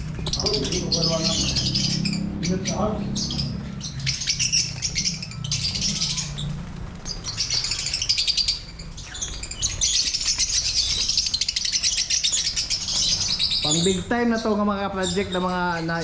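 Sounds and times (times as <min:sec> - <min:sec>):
lovebirds chirping and squeaking: 0:00.0 - 0:16.0.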